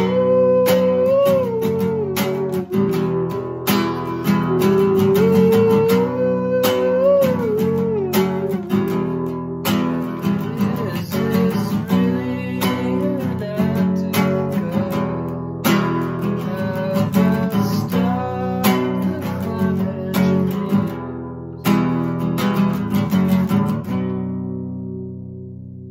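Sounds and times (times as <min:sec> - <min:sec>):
man singing: 0:00.0 - 0:22.0
acoustic guitar strumming chords: 0:00.0 - 0:25.9.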